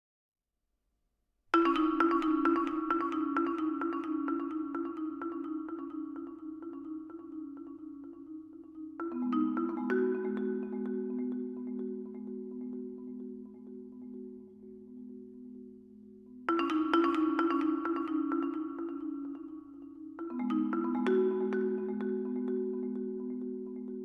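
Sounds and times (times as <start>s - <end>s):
marimbas and vibraphones playing: 1.5s - 24.0s.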